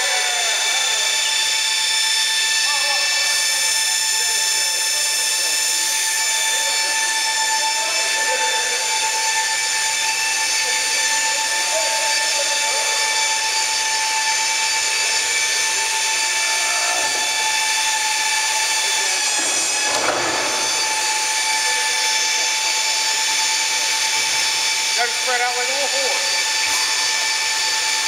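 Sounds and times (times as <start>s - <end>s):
high-pitched hydraulic whine: 0.0s - 28.0s.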